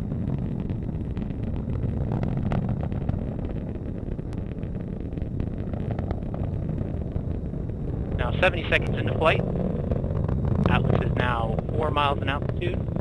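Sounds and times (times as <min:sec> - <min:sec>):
rocket engine rumbling with crackle: 0:00.0 - 0:13.0.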